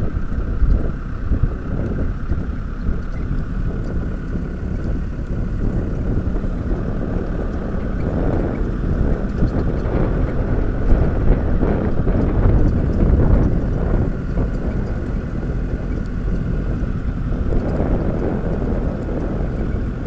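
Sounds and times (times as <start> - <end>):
vehicle engine running: 0.0 - 20.0
wind noise on microphone: 0.0 - 20.0.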